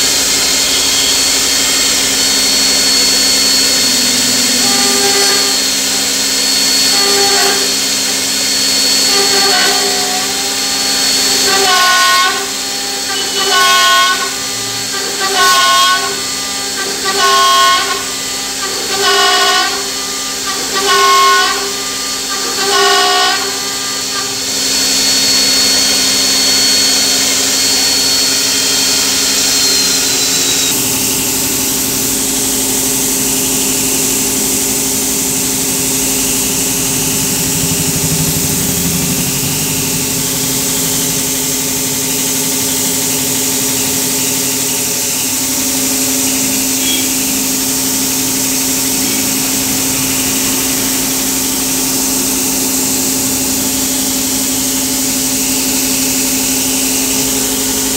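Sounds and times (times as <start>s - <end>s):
machine low hum: 0.0s - 18.9s, 23.4s - 57.9s
machine router cutting wood: 0.0s - 57.9s.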